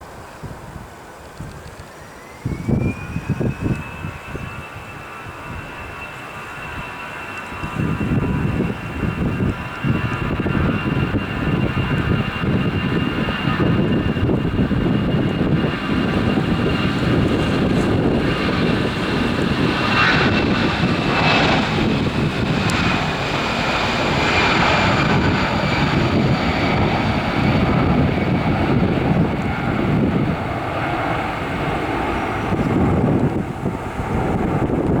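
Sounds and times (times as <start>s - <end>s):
jet engines at takeoff thrust: 0.0s - 35.0s.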